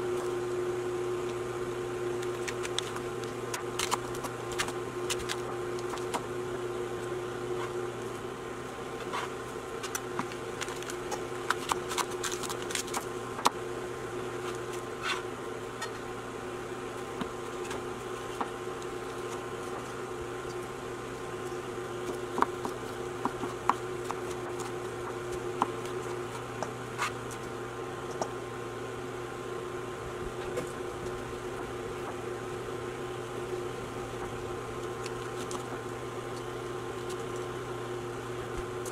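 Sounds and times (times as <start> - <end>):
cooktop humming: 0.0 - 38.9.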